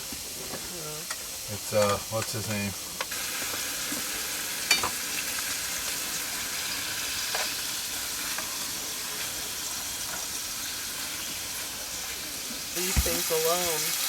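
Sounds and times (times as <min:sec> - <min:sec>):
steaks sizzling in a frying pan: 0:00.0 - 0:14.0.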